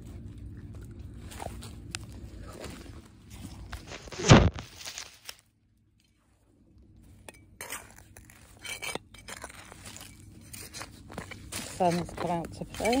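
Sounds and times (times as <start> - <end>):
crunching and scratching of dry soil: 0.0 - 5.5, 6.2 - 13.0.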